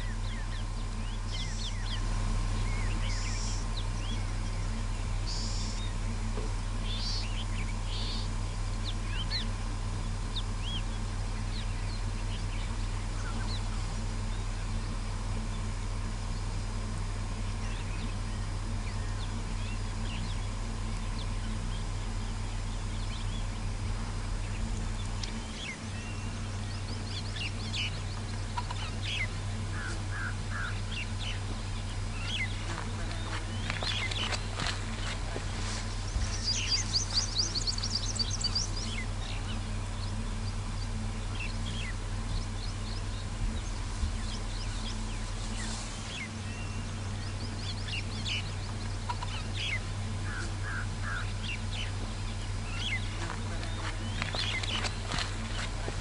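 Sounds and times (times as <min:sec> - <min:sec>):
steady low hum: 0:00.0 - 0:56.0
wild birds chirping: 0:00.0 - 0:56.0.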